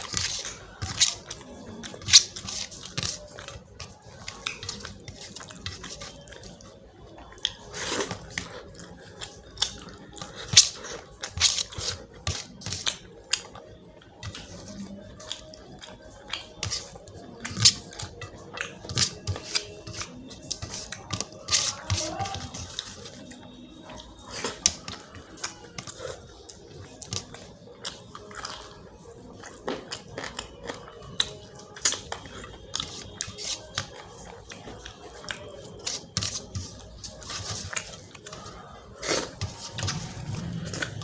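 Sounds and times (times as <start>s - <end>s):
wet chewing and smacking: 0.0s - 41.0s.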